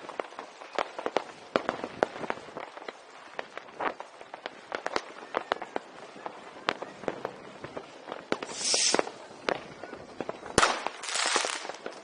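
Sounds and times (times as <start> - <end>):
background crackle: 0.0 - 12.0
firecrackers banging: 0.0 - 12.0.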